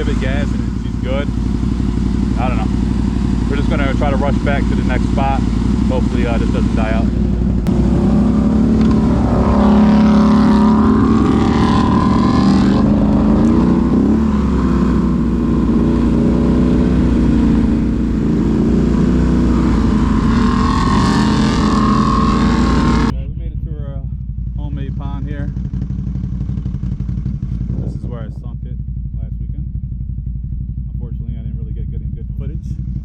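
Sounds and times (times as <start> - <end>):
quad bike engine running: 0.0 - 33.0.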